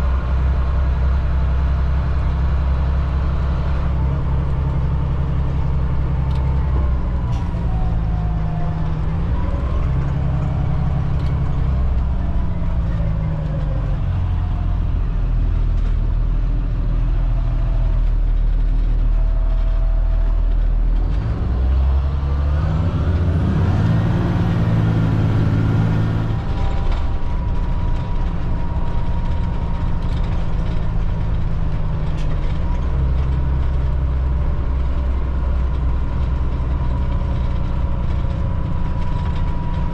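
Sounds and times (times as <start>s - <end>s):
bus diesel engine accelerating: 0.0s - 39.9s.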